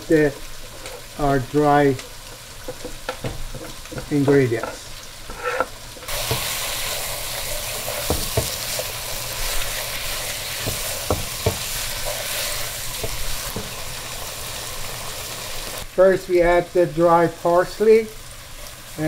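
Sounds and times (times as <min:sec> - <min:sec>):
meat frying in a pot: 0:00.0 - 0:19.0.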